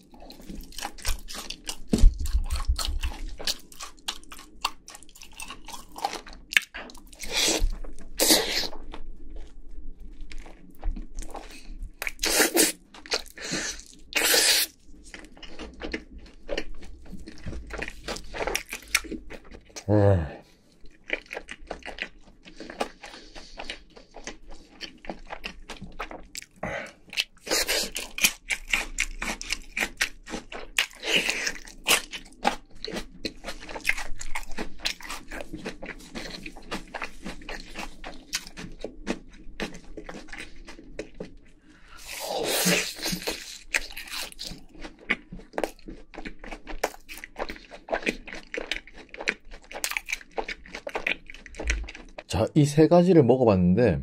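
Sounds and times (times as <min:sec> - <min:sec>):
chewing: 0:00.0 - 0:19.9, 0:20.5 - 0:52.3
crunching crispy fried food: 0:00.0 - 0:19.9, 0:20.7 - 0:52.3.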